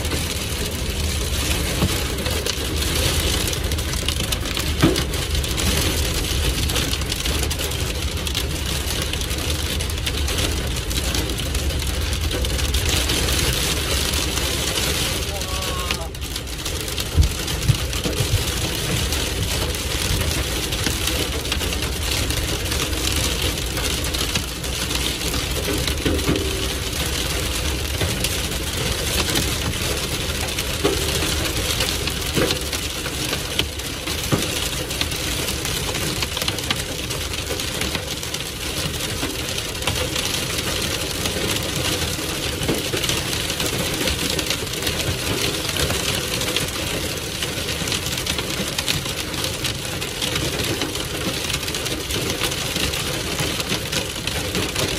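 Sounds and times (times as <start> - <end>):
rain and hail on car roof: 0.0 - 54.9.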